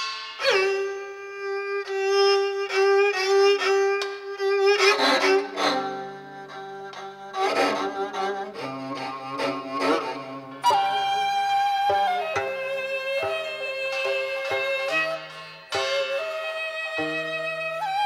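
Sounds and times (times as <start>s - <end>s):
bowed string long note: 1.8s - 18.0s
plucked string notes: 1.8s - 18.0s.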